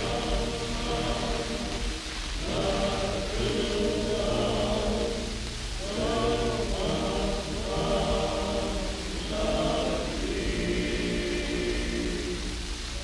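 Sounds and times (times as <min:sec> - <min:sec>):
quartet singing close harmony: 0:00.0 - 0:13.0.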